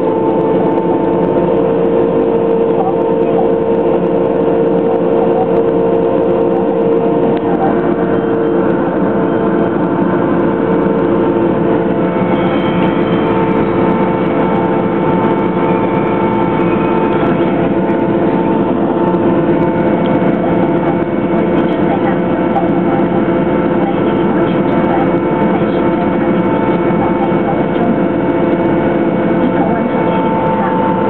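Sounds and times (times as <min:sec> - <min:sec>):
turbine engine droning: 0:00.0 - 0:31.0.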